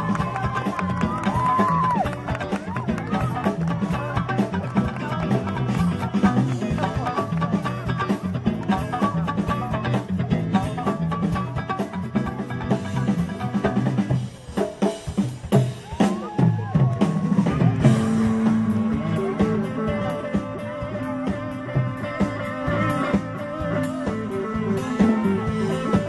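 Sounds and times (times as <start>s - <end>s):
live rock band playing: 0.0s - 26.0s
sliding guitar lead line: 0.0s - 26.0s.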